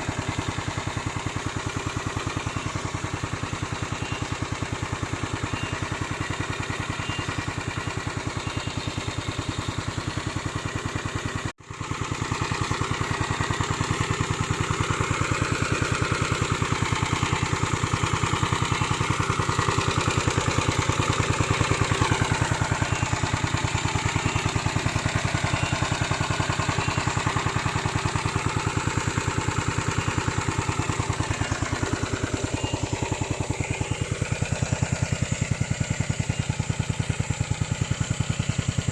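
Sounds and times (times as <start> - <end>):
small lawn mower engine running: 0.0 - 38.9.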